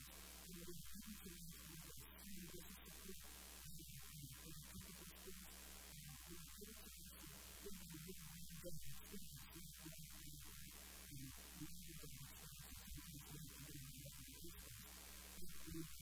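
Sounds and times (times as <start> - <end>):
faint mains hum: 0.0 - 16.0.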